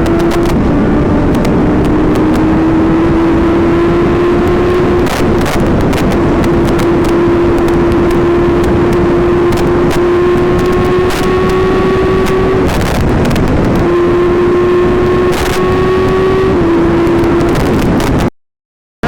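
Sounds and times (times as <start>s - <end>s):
motorcycle engine at speed: 0.0s - 18.3s
wind buffeting on microphone: 0.0s - 18.3s.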